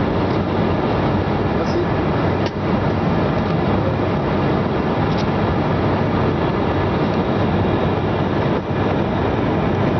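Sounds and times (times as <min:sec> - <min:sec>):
airliner cabin engine and airflow noise: 0:00.0 - 0:09.9.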